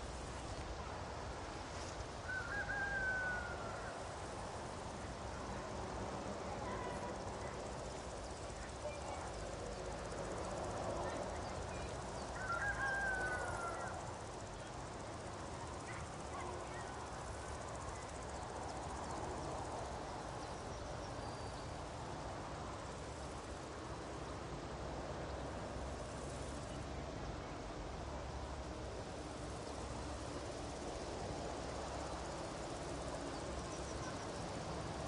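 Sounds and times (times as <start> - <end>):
steady background hiss: 0.0 - 35.0.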